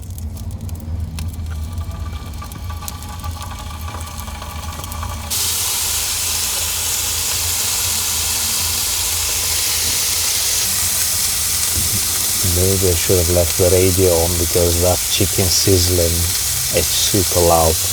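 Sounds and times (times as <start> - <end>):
chicken sizzling in frying pan: 0.0 - 17.9.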